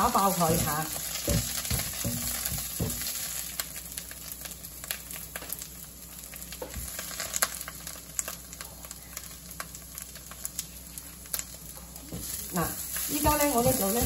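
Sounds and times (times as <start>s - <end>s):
mushrooms sizzling in a wok: 0.0s - 14.0s.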